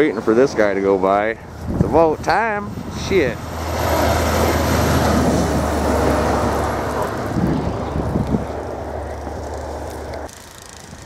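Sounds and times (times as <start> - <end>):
low engine hum: 1.0 - 11.0.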